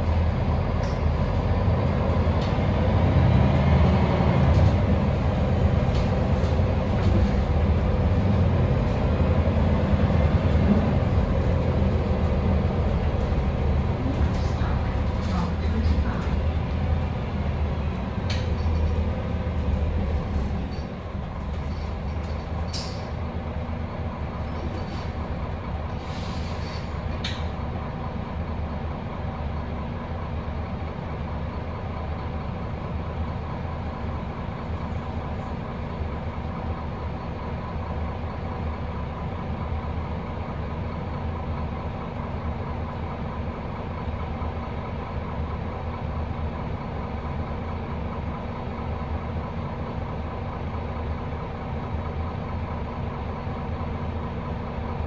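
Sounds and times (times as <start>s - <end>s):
bus engine hum: 0.0s - 55.0s.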